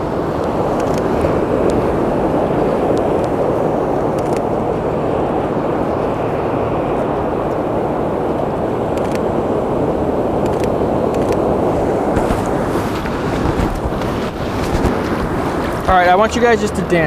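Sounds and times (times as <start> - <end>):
ocean surf rushing: 0.0 - 17.0
wind on microphone: 0.0 - 17.0.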